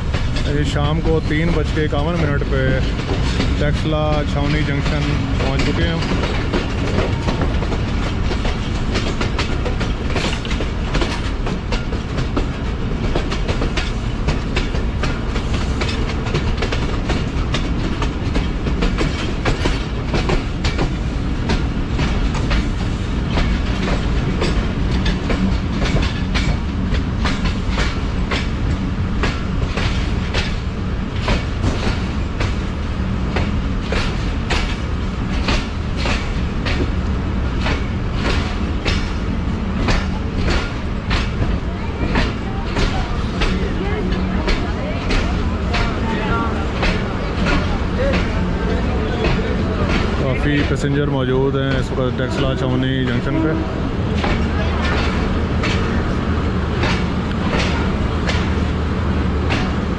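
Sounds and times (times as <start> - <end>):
train rumbling on tracks: 0.0 - 59.9
wheels clickety-clack: 0.0 - 59.9.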